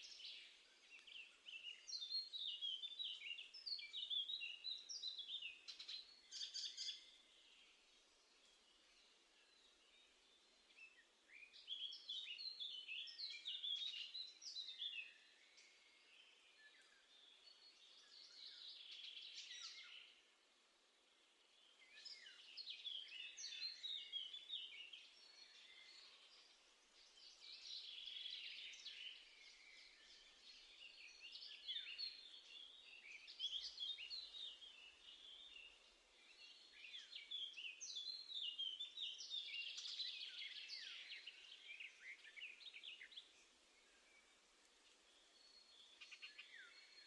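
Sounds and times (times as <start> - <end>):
faint background hiss: 0.0 - 47.0
songbird chirping: 0.0 - 47.0.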